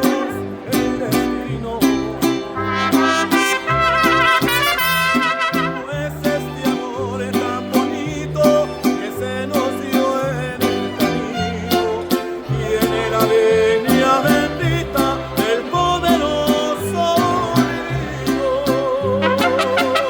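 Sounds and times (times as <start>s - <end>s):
bass line: 0.0s - 20.0s
strummed guitars: 0.0s - 20.0s.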